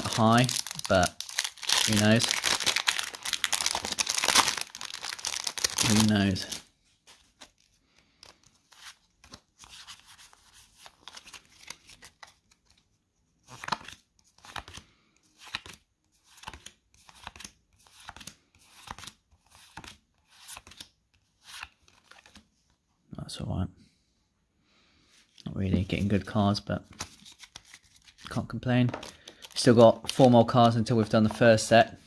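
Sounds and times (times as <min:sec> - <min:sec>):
trading cards rustling: 0:00.0 - 0:22.5, 0:25.2 - 0:31.7.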